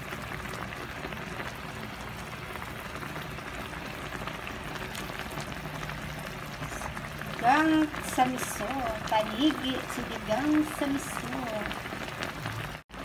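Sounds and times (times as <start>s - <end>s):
broth bubbling in a pan: 0.0s - 13.0s.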